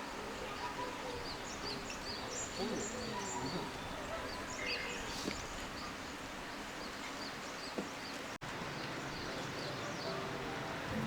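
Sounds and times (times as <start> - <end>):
river murmuring: 0.0 - 11.0
small birds chirping: 0.0 - 11.0.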